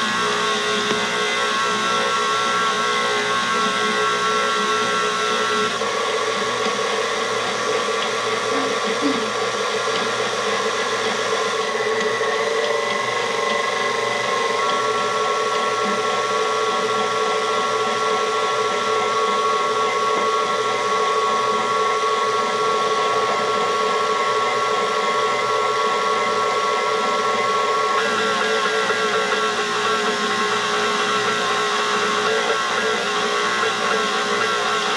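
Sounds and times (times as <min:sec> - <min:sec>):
electric mixer motor whining: 0:00.0 - 0:34.9.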